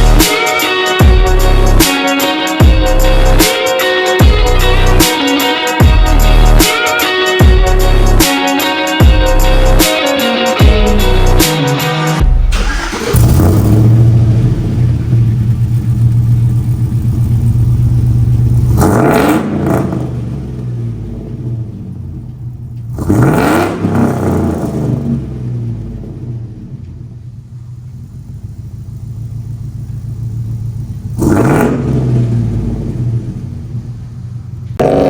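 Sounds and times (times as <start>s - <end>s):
truck engine idling and revving: 0.0s - 35.0s.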